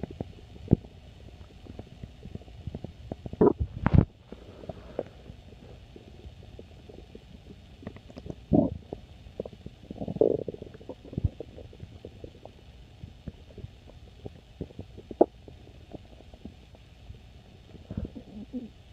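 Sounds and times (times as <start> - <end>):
small pops and bubbling: 0.0 - 4.2, 5.0 - 17.2
stomach growling and gurgling: 0.0 - 18.9.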